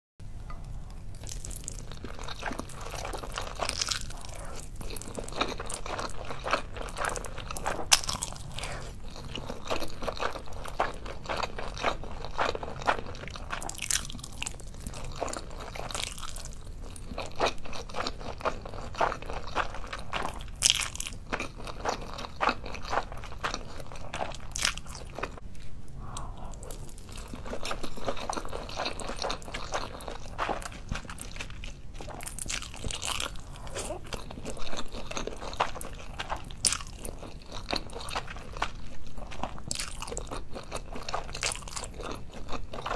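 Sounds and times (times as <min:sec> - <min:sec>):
wet chewing: 0:00.8 - 0:25.4, 0:26.0 - 0:42.9.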